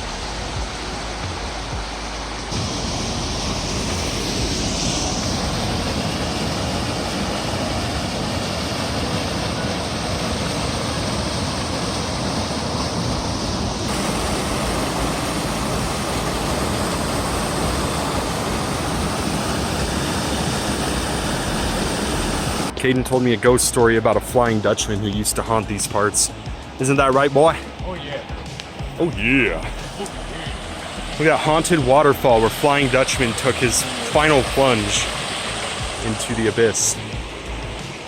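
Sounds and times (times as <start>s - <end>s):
waterfall rushing: 0.0s - 22.7s, 25.6s - 38.0s.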